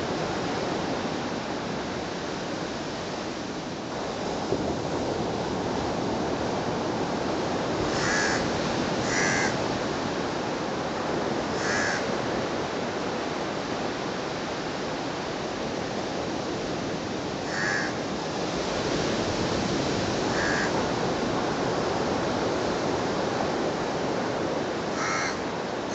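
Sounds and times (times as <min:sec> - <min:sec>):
brook running over sand: 0:03.8 - 0:25.9.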